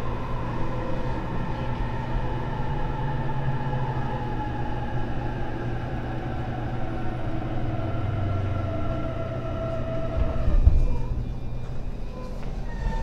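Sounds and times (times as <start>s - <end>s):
train rolling noise: 0.0s - 13.0s.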